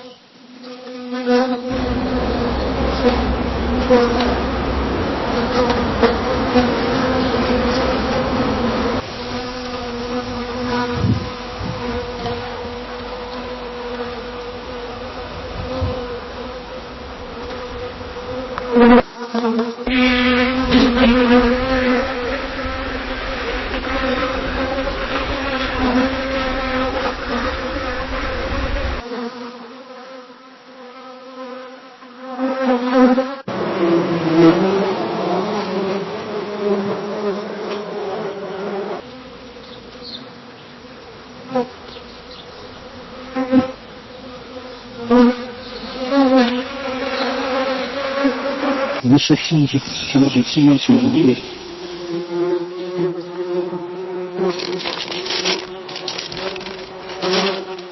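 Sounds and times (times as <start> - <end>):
bees buzzing in flight: 0.0 - 57.9.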